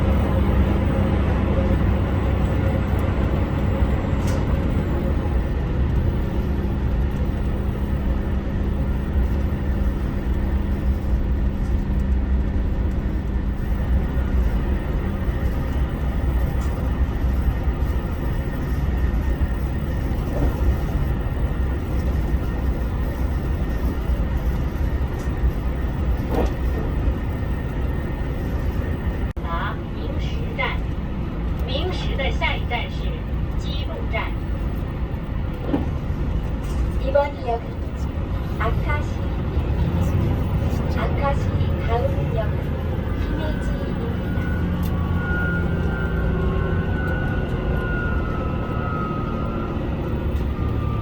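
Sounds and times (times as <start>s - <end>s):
diesel engine drone: 0.0s - 51.0s
wheel-on-rail rumble: 0.0s - 51.0s.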